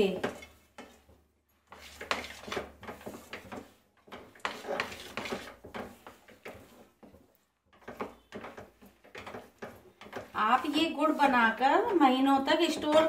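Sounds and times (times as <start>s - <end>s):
spoon scraping a metal pan: 0.1s - 13.0s.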